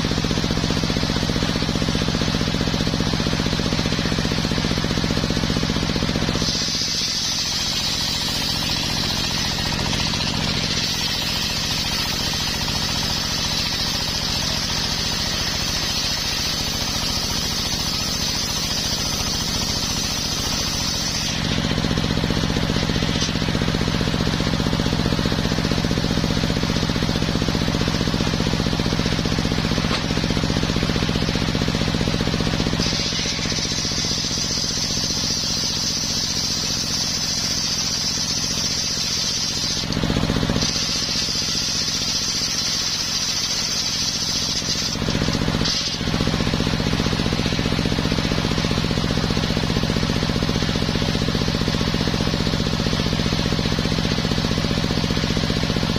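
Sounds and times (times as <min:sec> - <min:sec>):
saw blade whine cutting wood: 0:00.0 - 0:55.9
sawmill engine throbbing drone: 0:00.0 - 0:55.9.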